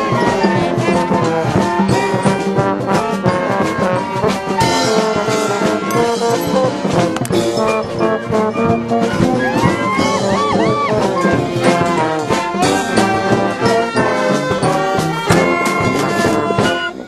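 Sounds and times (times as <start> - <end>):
brass horns playing a tune: 0.0 - 17.0.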